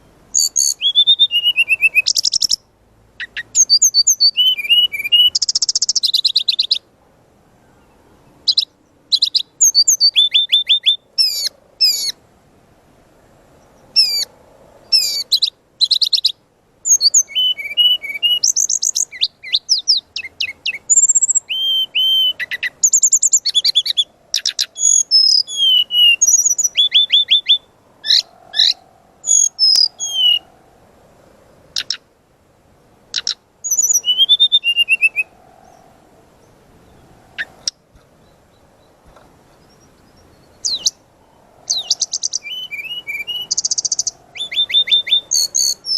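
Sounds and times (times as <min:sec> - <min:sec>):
bird singing whistles and trills: 0:00.3 - 0:06.8, 0:07.7 - 0:12.2, 0:13.6 - 0:14.3, 0:14.9 - 0:30.6, 0:31.8 - 0:32.0, 0:33.1 - 0:45.9.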